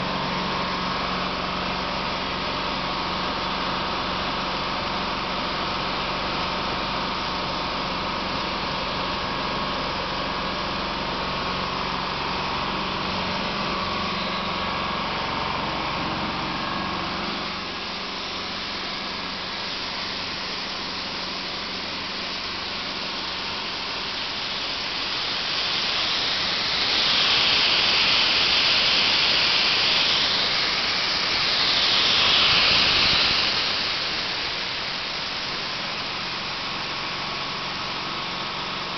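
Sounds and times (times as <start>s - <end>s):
compressor humming: 0.0s - 38.9s
loud hiss: 0.0s - 38.9s.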